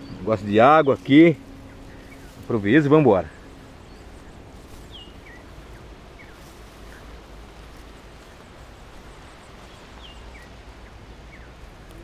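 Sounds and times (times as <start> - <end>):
small bird chirping: 0.0 - 2.5, 3.4 - 12.0
footsteps rustling on grassy trail: 0.4 - 12.0.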